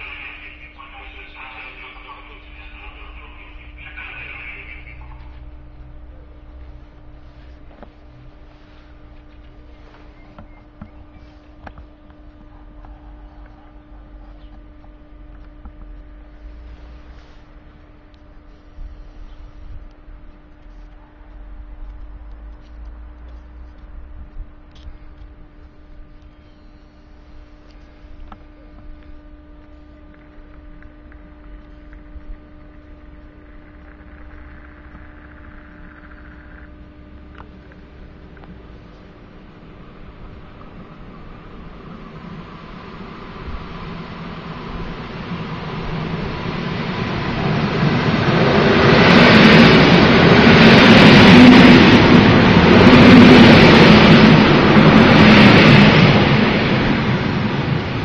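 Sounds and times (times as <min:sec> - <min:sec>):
train passing: 0:00.0 - 0:15.3, 0:15.9 - 0:58.0
low rumble: 0:00.0 - 0:58.0
steady hum: 0:00.0 - 0:58.0.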